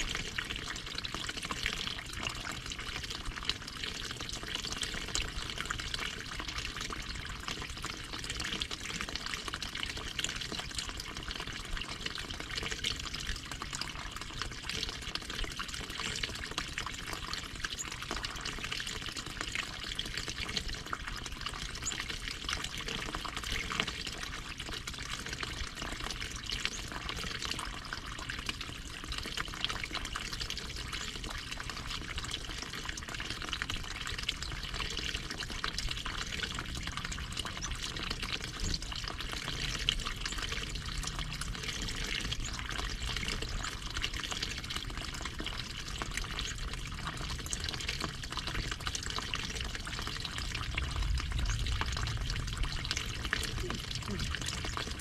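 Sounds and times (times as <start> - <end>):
stream trickling and splashing: 0.0 - 55.0.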